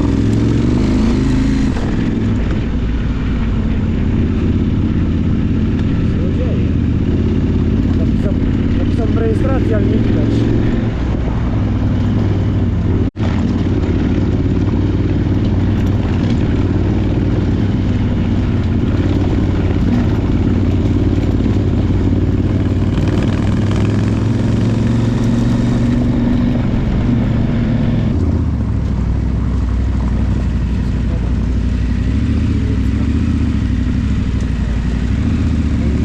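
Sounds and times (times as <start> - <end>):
wind noise: 0.0 - 30.6
motorcycle engine running: 0.0 - 36.0
road noise: 0.0 - 36.0.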